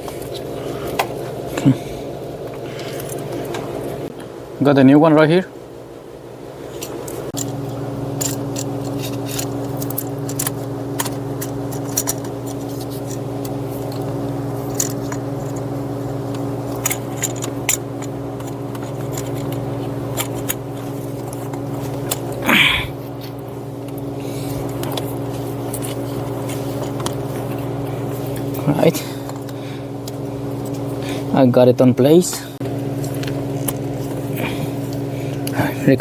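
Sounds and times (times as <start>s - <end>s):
steady machine hum: 0.0s - 36.0s.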